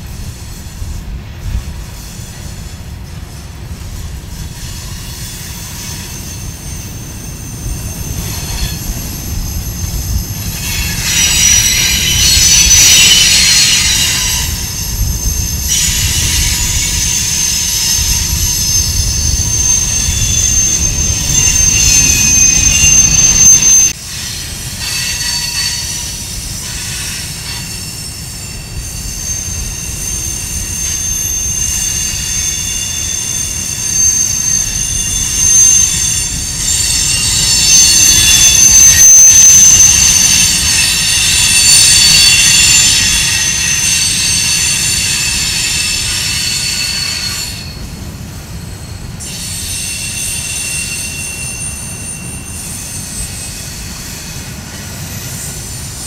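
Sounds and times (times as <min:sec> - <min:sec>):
steel wheels rumbling on rail: 0:00.0 - 0:56.0
train wheels squealing: 0:00.0 - 0:56.0.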